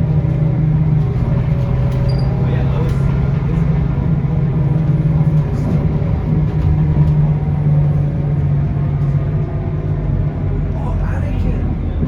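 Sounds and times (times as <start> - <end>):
bus diesel engine humming: 0.0 - 12.0
road noise: 0.0 - 12.0.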